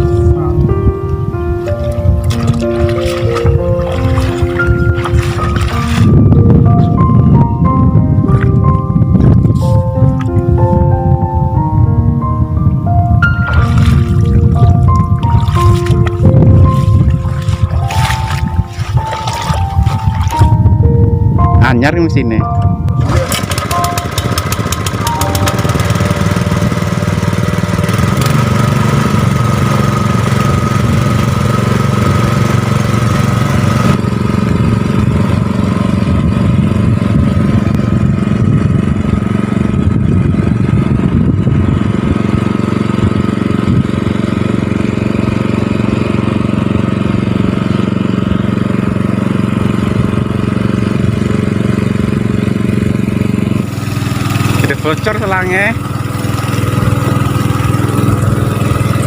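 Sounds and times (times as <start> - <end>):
water pump engine running: 0.0 - 12.0, 12.7 - 21.3, 22.6 - 59.0.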